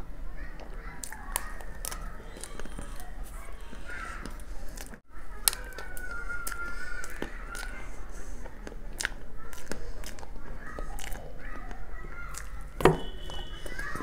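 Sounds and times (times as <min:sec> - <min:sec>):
distant voices: 0:00.0 - 0:14.0
wet mouth eating noises: 0:00.6 - 0:13.5.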